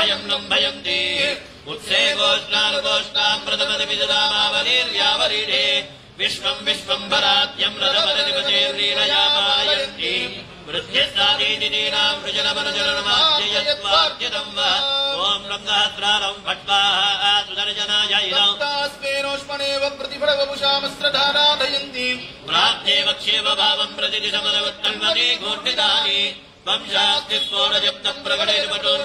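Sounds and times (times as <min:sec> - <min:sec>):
men chanting together: 0:00.0 - 0:18.6, 0:20.8 - 0:29.0.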